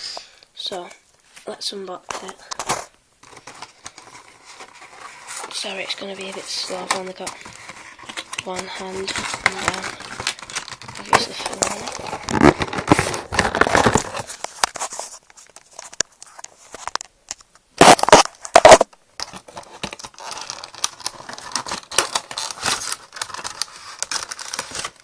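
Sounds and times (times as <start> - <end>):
cardboard box rustling: 2.1 - 17.0, 17.8 - 25.0.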